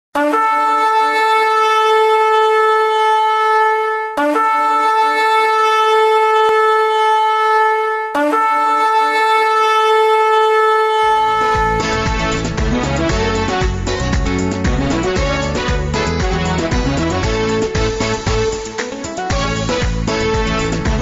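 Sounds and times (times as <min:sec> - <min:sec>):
long horn blasts: 0:00.2 - 0:21.0.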